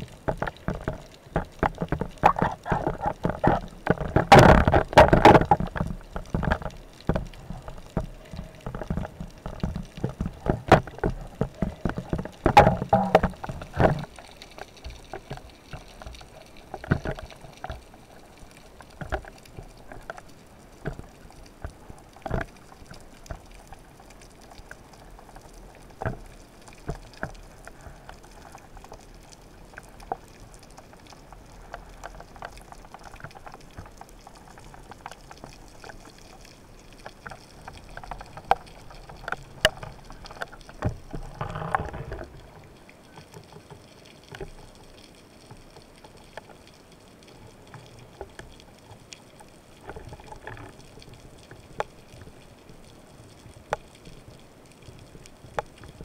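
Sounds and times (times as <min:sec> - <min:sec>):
low watery hiss: 0:00.0 - 0:56.0
underwater clicks and crackles: 0:00.0 - 0:56.0.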